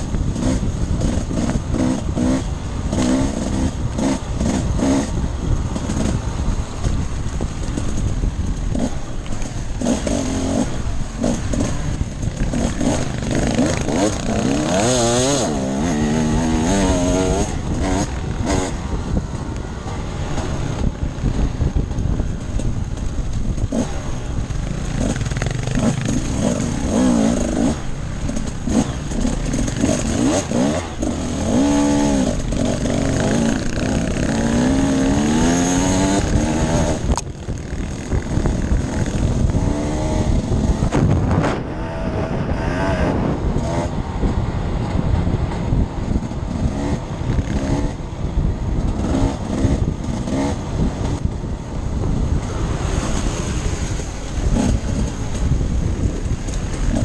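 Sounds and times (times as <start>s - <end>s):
dirt bike engine revving: 0.0s - 57.0s
wind and terrain rumble: 0.0s - 57.0s.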